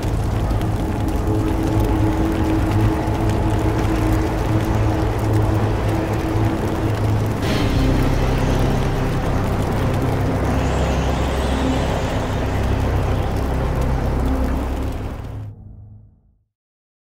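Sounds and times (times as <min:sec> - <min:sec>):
hissing layer: 0:00.0 - 0:15.5
dark low rumbling drone: 0:00.0 - 0:16.0.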